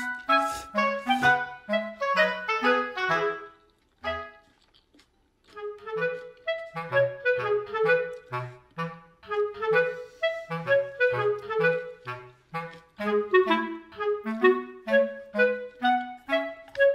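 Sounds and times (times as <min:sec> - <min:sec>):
light melody music: 0:00.0 - 0:04.6, 0:05.5 - 0:16.9.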